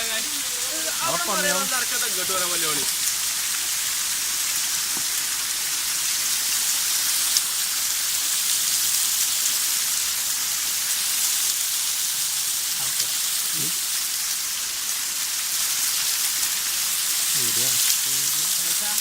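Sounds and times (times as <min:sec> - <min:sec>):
waterfall rushing and splashing: 0:00.0 - 0:19.0.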